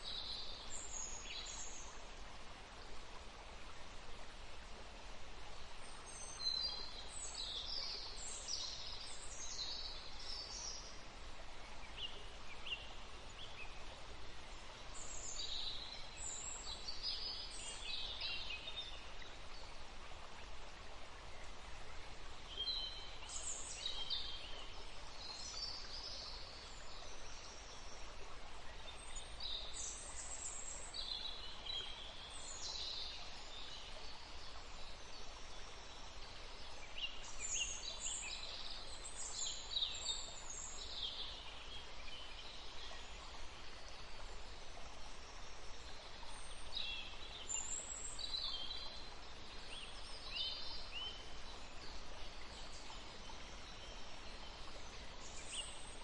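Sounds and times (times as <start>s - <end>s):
songbirds chirping: 0.0s - 56.0s
steady background hiss: 0.0s - 56.0s.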